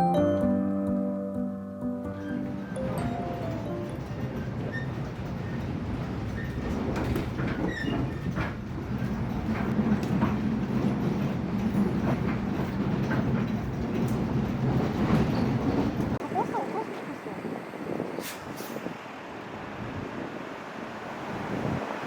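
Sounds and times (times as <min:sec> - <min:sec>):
moving vehicle rumble: 0:02.2 - 0:22.0.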